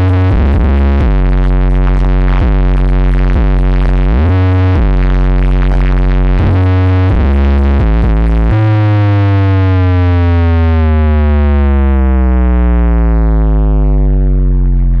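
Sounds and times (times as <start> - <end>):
deep synth bass notes: 0.0 - 15.0.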